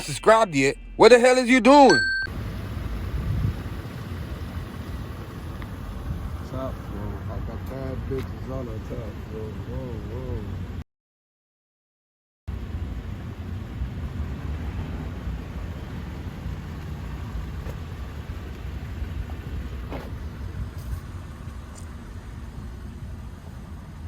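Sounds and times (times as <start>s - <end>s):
car engine and road noise: 0.0s - 10.8s, 12.5s - 24.0s.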